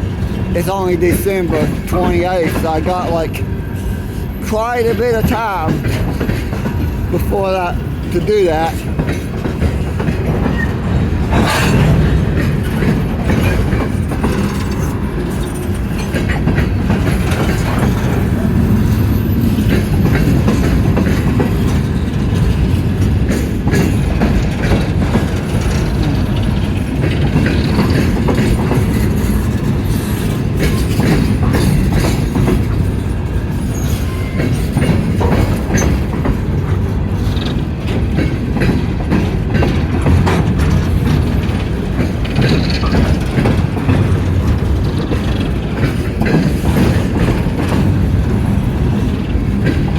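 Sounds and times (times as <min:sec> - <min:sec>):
freight train rumble: 0:00.0 - 0:49.9
steel wheels clacking over rail joints: 0:00.0 - 0:49.9.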